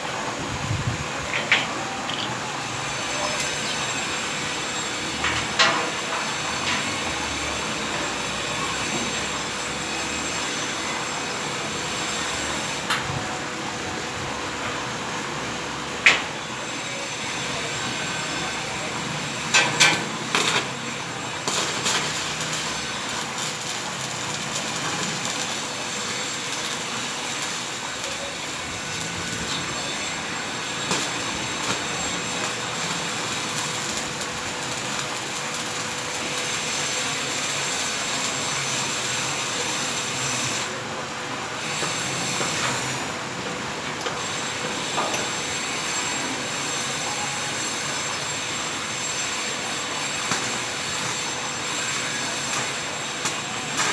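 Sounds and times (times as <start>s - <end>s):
arc welding crackling hiss: 0.2s - 40.8s, 44.1s - 53.9s.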